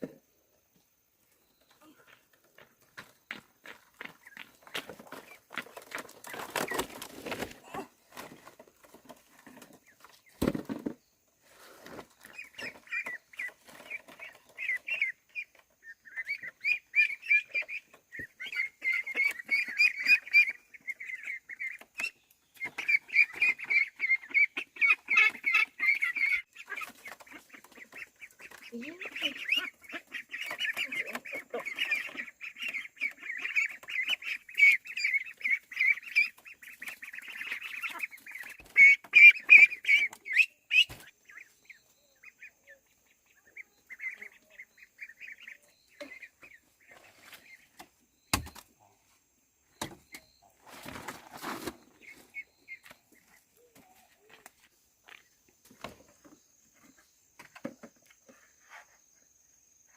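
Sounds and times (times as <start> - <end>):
ducklings peeping: 1.6 - 7.6, 11.8 - 49.1, 49.7 - 54.6.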